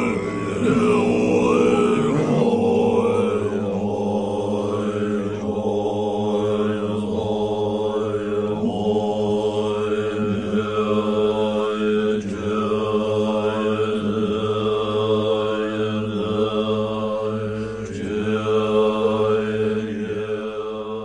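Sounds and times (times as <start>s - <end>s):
mantra chanted on low pitch: 0.0s - 21.0s.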